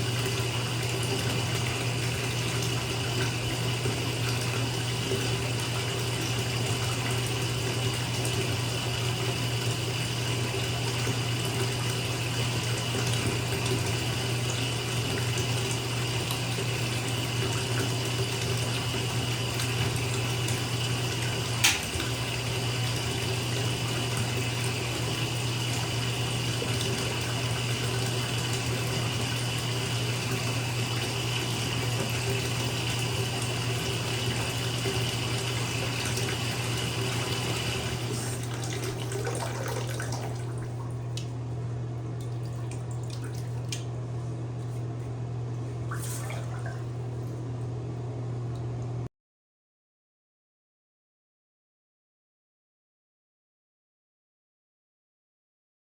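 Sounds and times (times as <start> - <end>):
water pouring into bathtub: 0.0 - 41.4, 42.1 - 44.0, 45.8 - 47.4.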